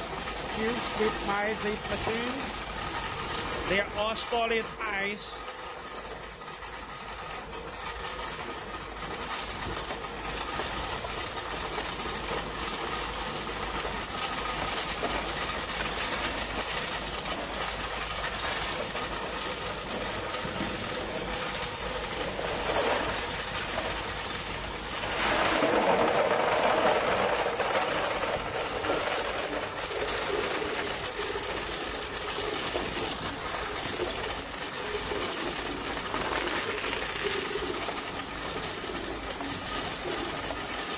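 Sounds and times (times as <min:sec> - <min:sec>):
ice clattering down metal chute: 0:00.0 - 0:40.9
machine mechanical rattle: 0:05.4 - 0:40.9.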